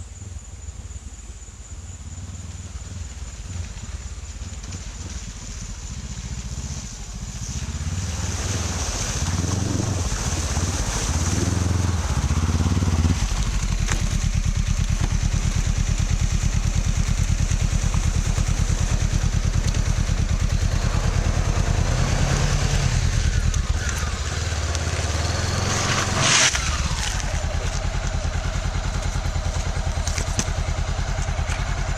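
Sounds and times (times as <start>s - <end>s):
engine running: 0.0s - 31.9s.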